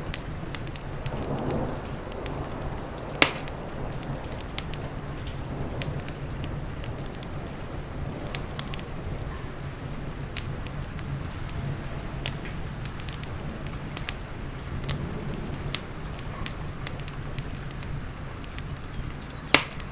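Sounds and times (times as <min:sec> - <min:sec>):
steady rain: 0:00.0 - 0:19.9
wood fire crackling and popping: 0:00.0 - 0:19.9.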